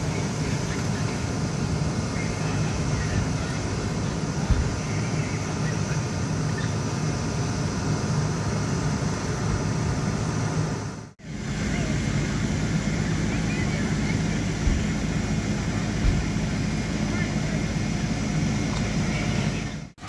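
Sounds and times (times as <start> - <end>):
fire engine running: 0.0 - 20.0.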